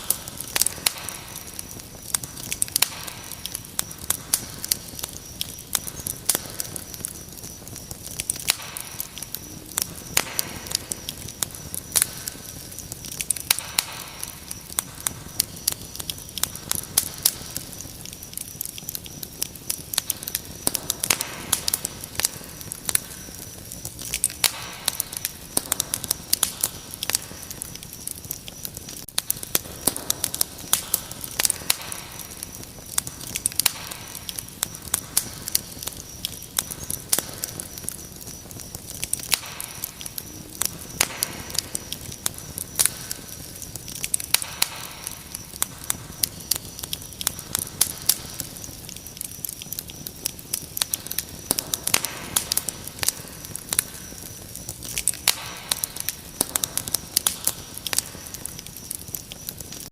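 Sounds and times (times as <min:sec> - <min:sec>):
crickets chirring: 0:00.0 - 0:59.9
wood fire crackling: 0:00.0 - 0:59.9.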